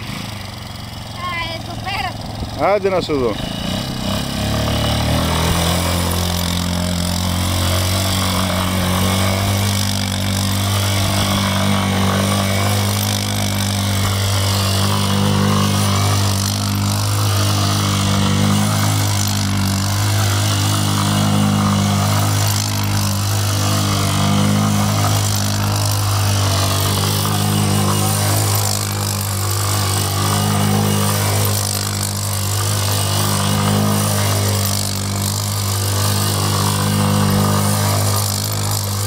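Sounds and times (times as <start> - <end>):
atv engine running: 0.0 - 39.0.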